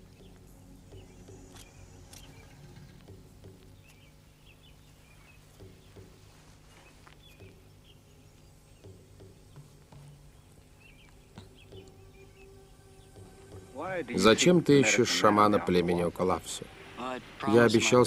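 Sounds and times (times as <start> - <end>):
bird chirps: 0.0 - 17.5
low steady hum: 0.0 - 18.0.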